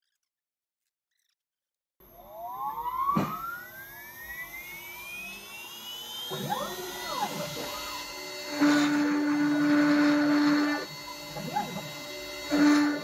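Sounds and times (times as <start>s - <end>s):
cutting hum and hiss: 2.0s - 13.0s
router spindle whine: 2.0s - 13.0s.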